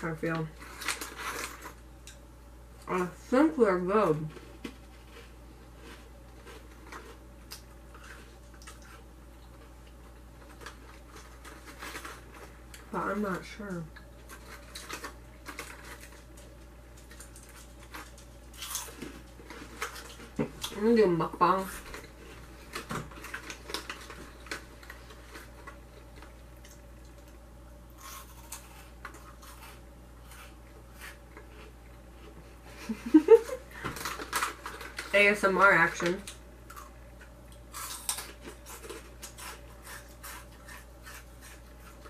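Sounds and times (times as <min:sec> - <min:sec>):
low steady hum: 0:00.0 - 0:42.0
foil snack bag crinkling: 0:00.2 - 0:01.9, 0:04.1 - 0:27.3, 0:32.8 - 0:42.0
chips crunching: 0:00.4 - 0:02.2, 0:04.2 - 0:32.4, 0:33.1 - 0:42.0.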